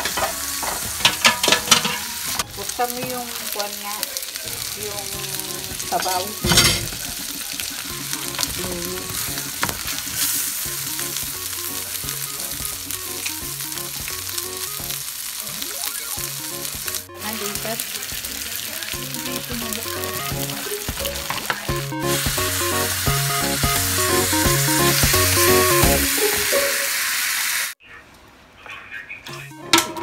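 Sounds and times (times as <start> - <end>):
soft background music: 0.0 - 26.7, 29.2 - 30.0
food sizzling in oil: 0.0 - 27.8.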